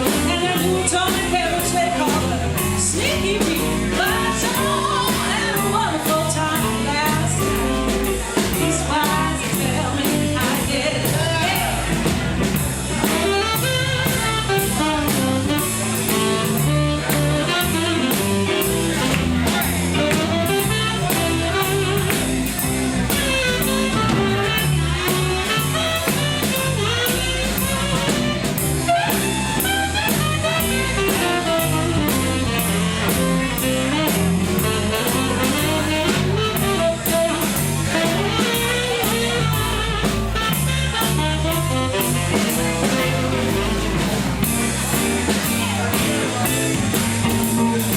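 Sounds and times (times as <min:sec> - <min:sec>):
drum kit beat: 0:00.0 - 0:47.9
lead melody: 0:00.0 - 0:47.9
walking bass line: 0:00.0 - 0:47.9.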